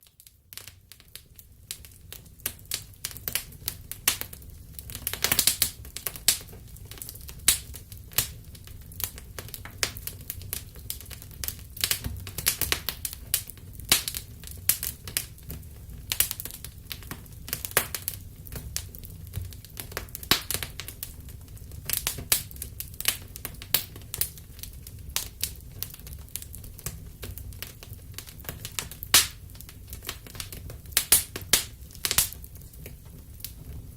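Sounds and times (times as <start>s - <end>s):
low rumble of burning fire: 0.0s - 33.9s
wood fire crackling: 0.0s - 33.9s.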